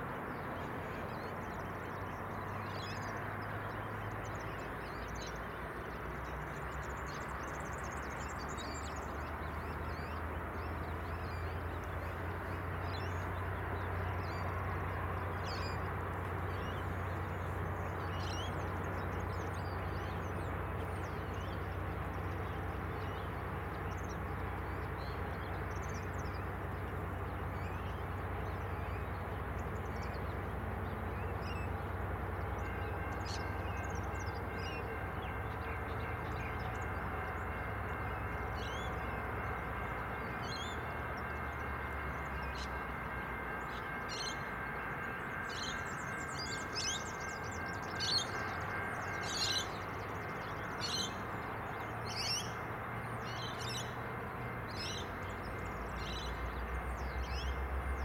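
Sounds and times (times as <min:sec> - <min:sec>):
diesel railcar idling: 0:00.0 - 0:58.0.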